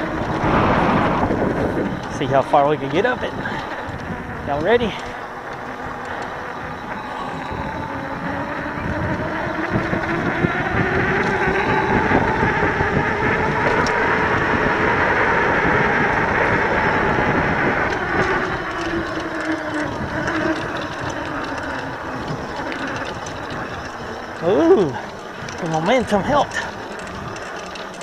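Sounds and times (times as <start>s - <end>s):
electric bike motor whining: 0.0s - 28.0s
tyre and wind rumble: 0.0s - 28.0s.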